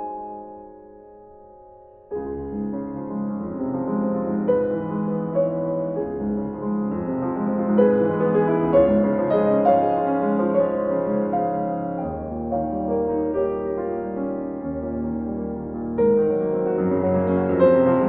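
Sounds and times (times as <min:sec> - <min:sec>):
piano background music: 0:00.0 - 0:18.0.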